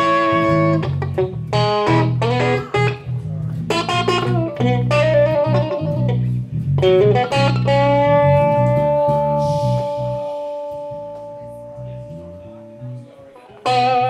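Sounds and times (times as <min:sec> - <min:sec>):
bass guitar line: 0:00.0 - 0:14.0
electric guitar solo: 0:00.0 - 0:14.0.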